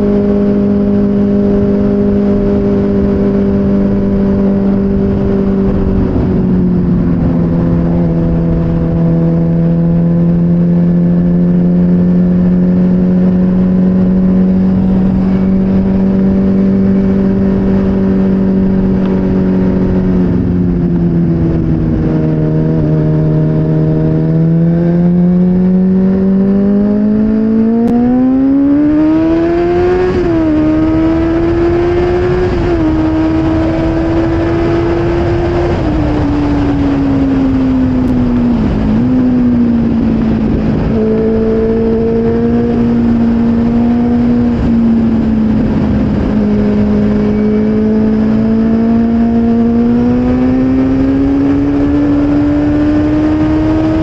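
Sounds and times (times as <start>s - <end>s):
motorcycle engine revving: 0.0s - 54.0s
wind rushing over microphone: 0.0s - 54.0s.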